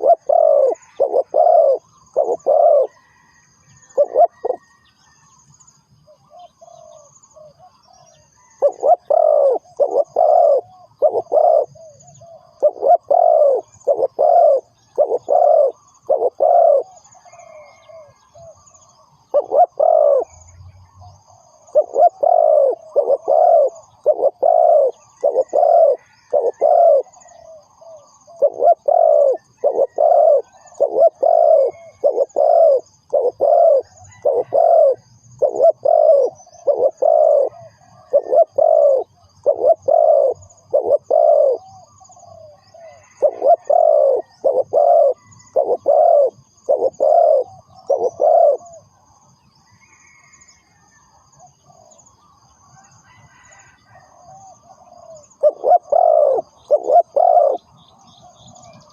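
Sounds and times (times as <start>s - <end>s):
dove cooing: 0.0s - 4.8s, 6.1s - 18.6s, 19.2s - 20.5s, 21.6s - 48.9s, 53.1s - 58.9s
faint high chirping: 0.0s - 58.9s.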